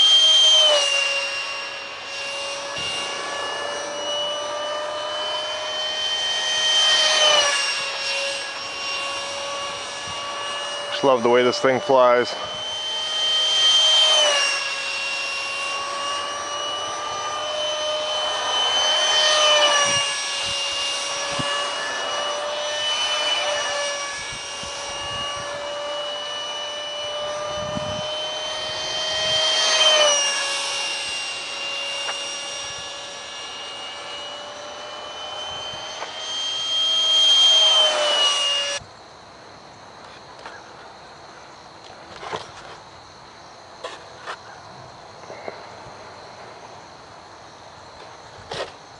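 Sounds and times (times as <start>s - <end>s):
electric ducted fan whining: 0.0s - 48.9s
faint insect chirring: 0.2s - 48.9s.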